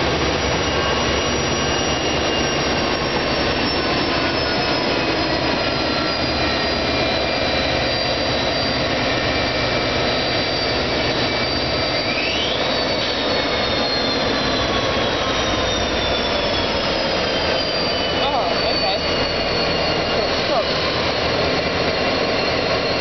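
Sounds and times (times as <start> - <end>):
freight train rumbling: 0.0 - 23.0
wheel squeal: 0.0 - 23.0.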